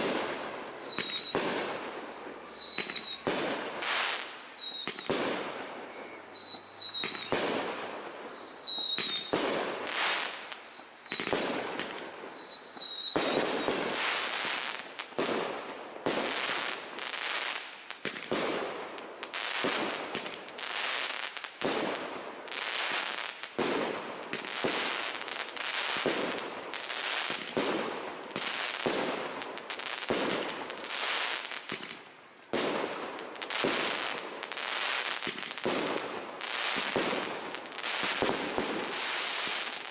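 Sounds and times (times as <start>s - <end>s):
fireworks bursting with crackles: 0.0s - 39.9s
fireworks whistling: 0.0s - 39.9s.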